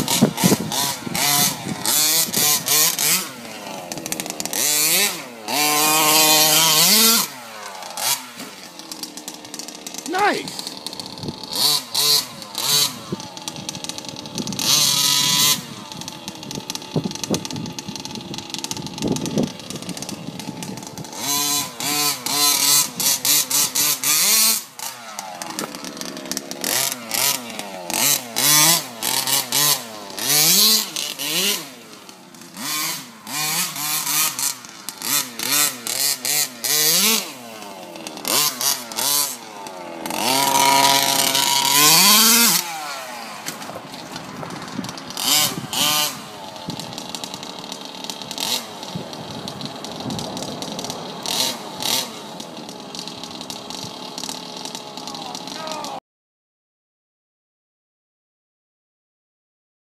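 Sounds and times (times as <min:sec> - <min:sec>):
small two-stroke engine revving: 0:00.0 - 0:56.0.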